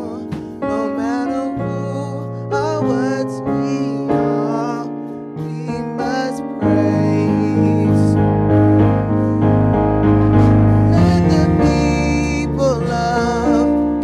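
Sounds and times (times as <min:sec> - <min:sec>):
keyboard accompaniment: 0:00.0 - 0:14.0
man singing into a microphone: 0:00.0 - 0:14.0.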